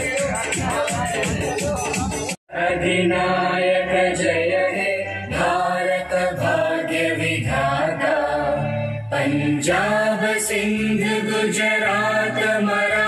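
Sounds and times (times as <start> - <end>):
voices chanting long notes: 2.5 - 13.0.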